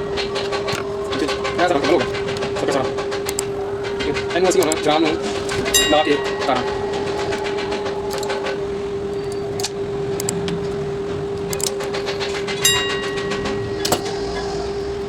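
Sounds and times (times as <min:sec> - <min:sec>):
steady mid-pitched hum: 0:00.0 - 0:15.0.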